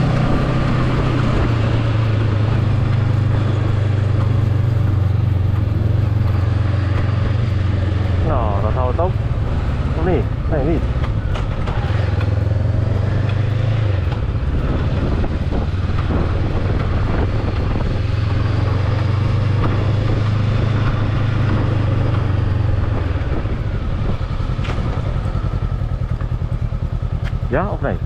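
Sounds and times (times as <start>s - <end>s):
small motorbike engine running: 0.0s - 28.0s.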